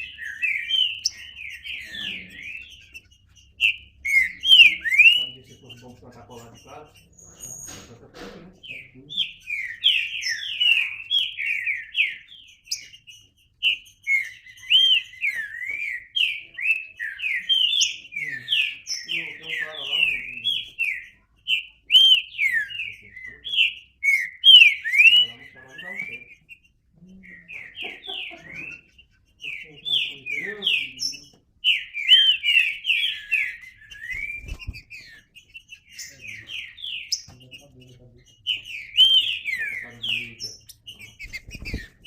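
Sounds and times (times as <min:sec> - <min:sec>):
bird singing whistled notes: 0:00.0 - 0:07.9, 0:08.8 - 0:42.0.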